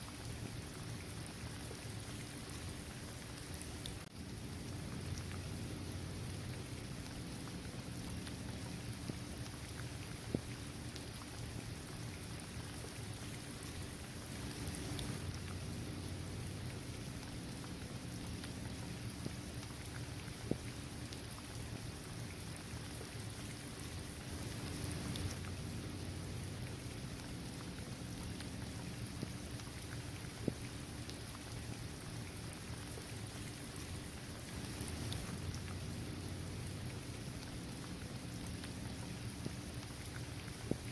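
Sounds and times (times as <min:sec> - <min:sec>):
rain on hard court surface: 0:00.0 - 0:40.9.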